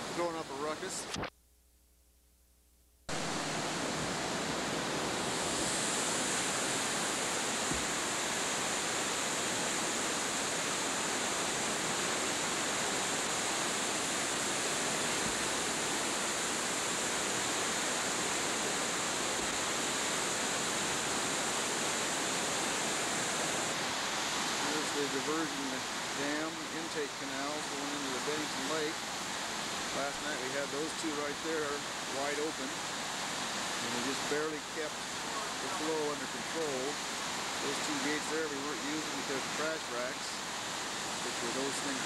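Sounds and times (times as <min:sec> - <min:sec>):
floodwater rushing: 0:03.1 - 0:42.0.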